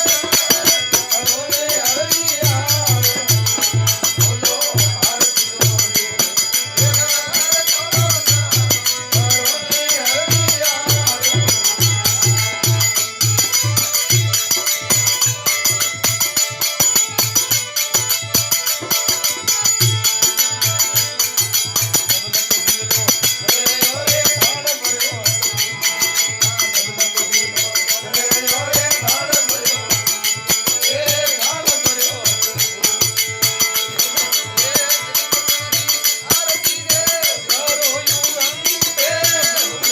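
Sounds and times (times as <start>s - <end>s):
jingling percussion: 0.0s - 39.9s.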